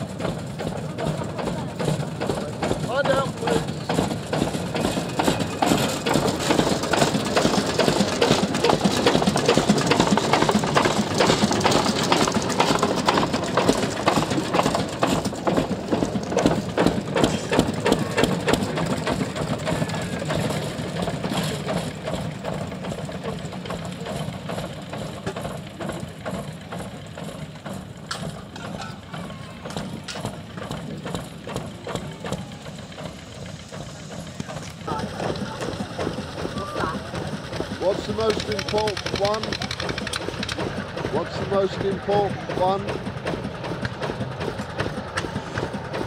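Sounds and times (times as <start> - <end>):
diesel locomotive engine knocking: 0.0 - 46.0.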